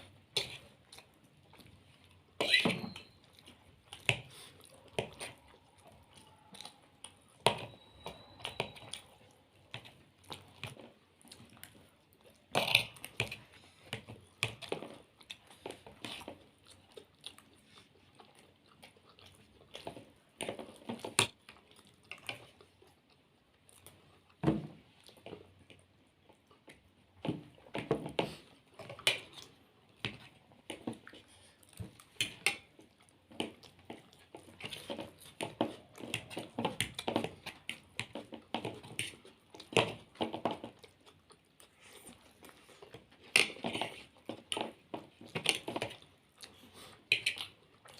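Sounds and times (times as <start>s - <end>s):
mouths chewing food: 0.0s - 47.9s.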